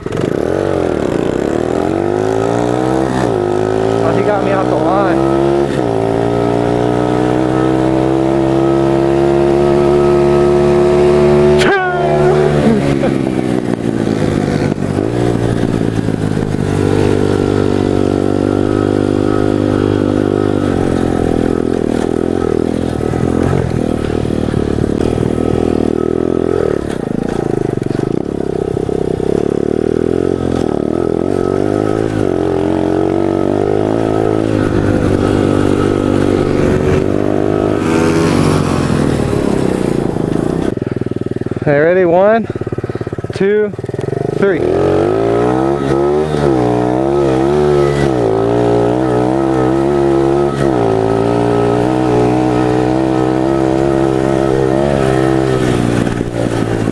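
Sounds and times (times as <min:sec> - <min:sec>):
pit bike engine revving: 0:00.0 - 0:56.9.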